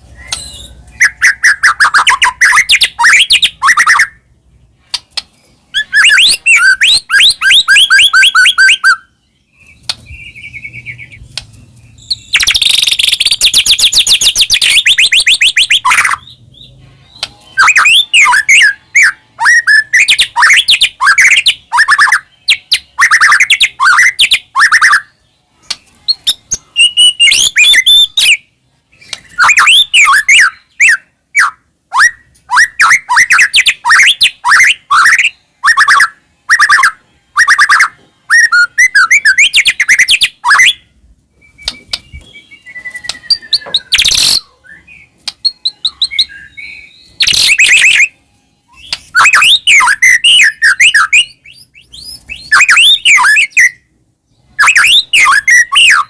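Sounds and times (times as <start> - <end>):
songbird singing varied whistles: 0.0 - 4.2, 5.7 - 56.0.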